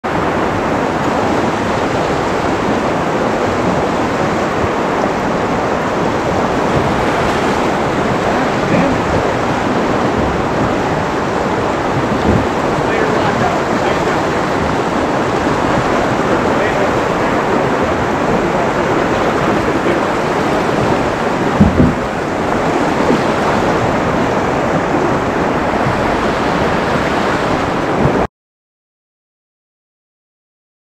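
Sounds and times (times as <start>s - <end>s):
river rushing over riffle: 0.0s - 28.3s.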